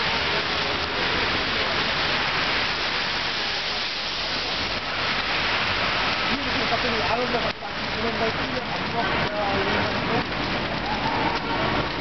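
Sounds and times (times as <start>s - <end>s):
rushing hiss of city street: 0.0s - 12.0s.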